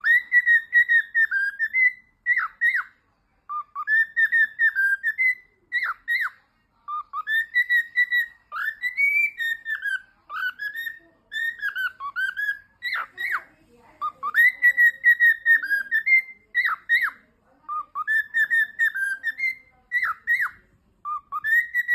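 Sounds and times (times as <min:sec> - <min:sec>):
cockatiel whistling: 0:00.0 - 0:02.9, 0:03.5 - 0:13.4, 0:14.0 - 0:21.9.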